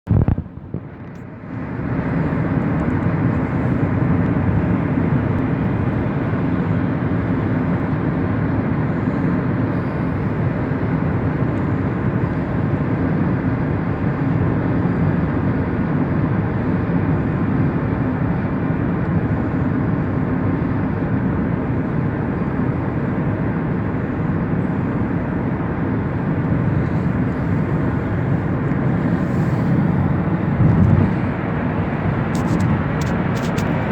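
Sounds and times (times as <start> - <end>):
car engine rumble: 0.1 - 33.9
road and tyre noise: 0.1 - 33.9.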